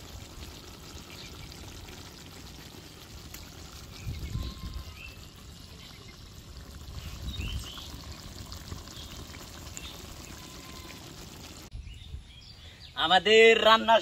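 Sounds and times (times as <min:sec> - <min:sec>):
curry bubbling and sizzling in pot: 0:00.0 - 0:11.7
outdoor background noise: 0:00.0 - 0:14.0.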